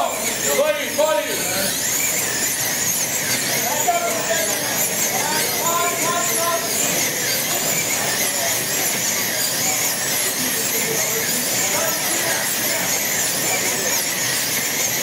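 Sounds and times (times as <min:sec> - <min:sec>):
slot car electric motors whining: 0:00.0 - 0:15.0.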